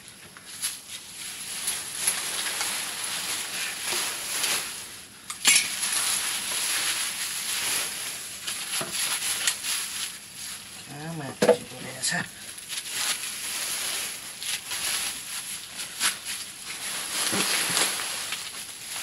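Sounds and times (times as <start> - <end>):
pot sizzling over fire: 0.0 - 19.0.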